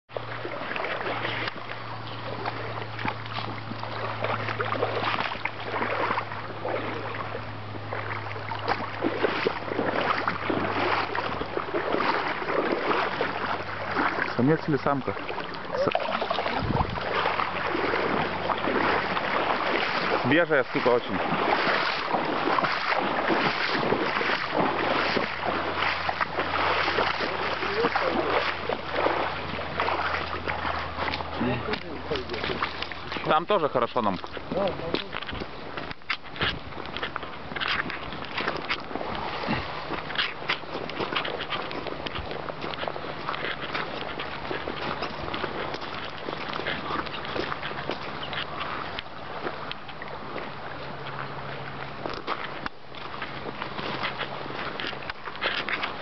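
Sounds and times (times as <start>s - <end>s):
low steady hum: 0.1s - 56.0s
river water rushing: 0.1s - 56.0s
water sloshing from wading: 0.1s - 56.0s.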